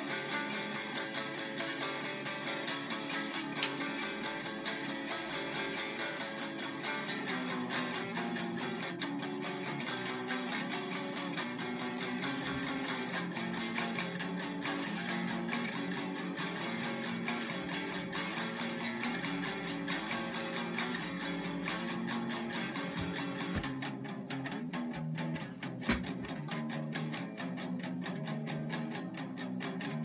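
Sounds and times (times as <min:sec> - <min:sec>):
guitar strings scraped with stick: 0:00.0 - 0:27.3.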